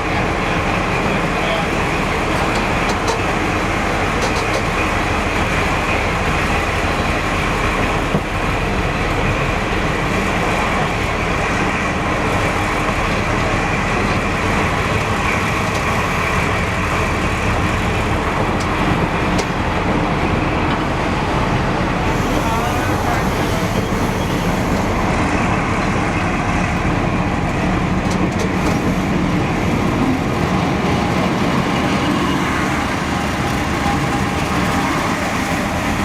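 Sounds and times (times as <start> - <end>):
diesel train running: 0.0 - 36.0.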